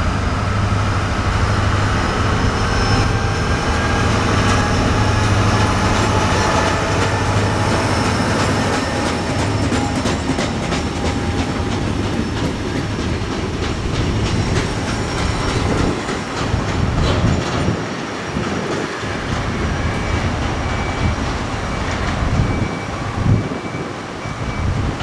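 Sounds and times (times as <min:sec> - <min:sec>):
freight train wheels clattering: 0:00.1 - 0:22.8.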